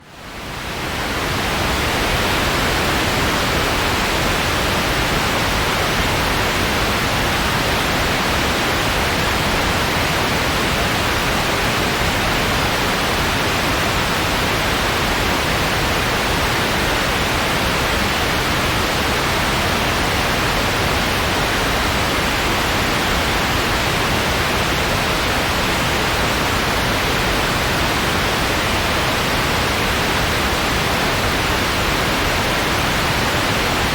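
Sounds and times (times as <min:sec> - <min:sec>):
steady white noise hiss: 0:00.0 - 0:33.9.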